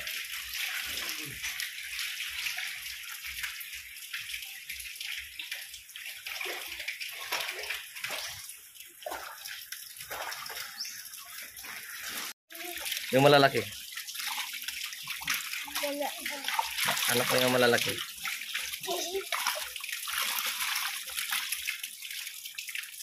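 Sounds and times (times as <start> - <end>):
water churning and splashing: 0.0 - 23.0.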